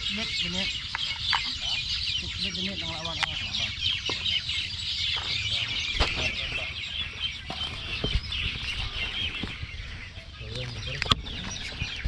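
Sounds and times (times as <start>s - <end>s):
chorus of birds chirping: 0.0s - 12.0s.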